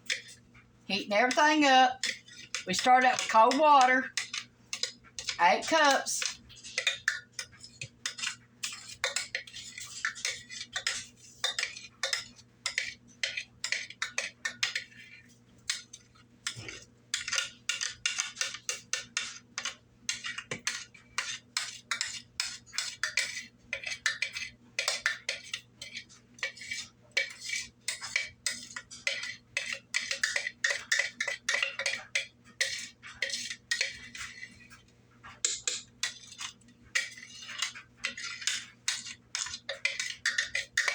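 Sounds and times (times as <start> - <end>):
metal utensil scraping a pot: 0.0 - 40.9.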